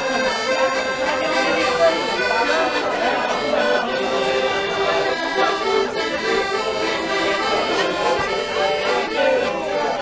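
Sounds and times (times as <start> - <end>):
button accordion playing: 0.0 - 10.0.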